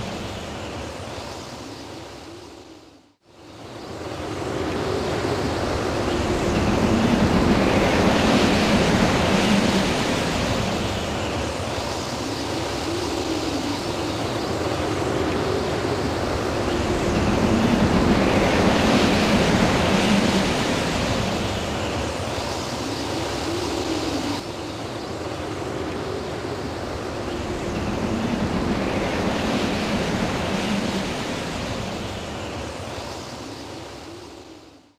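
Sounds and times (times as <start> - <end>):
storm wind gusting: 3.7 - 34.9.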